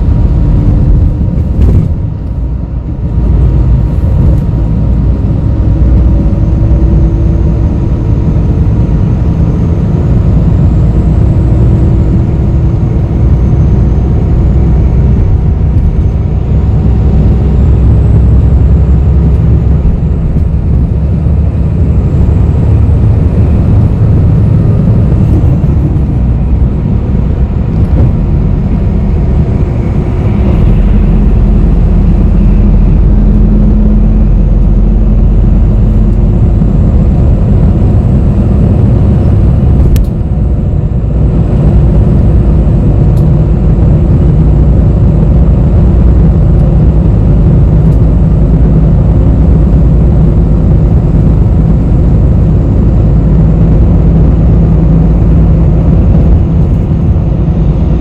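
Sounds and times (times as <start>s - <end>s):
bus engine and road rumble: 0.0s - 58.0s
faint rising whine: 0.0s - 58.0s.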